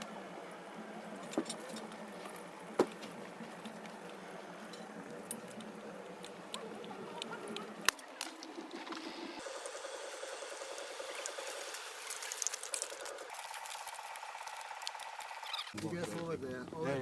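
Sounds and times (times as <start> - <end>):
steady background noise: 0.0 - 15.8.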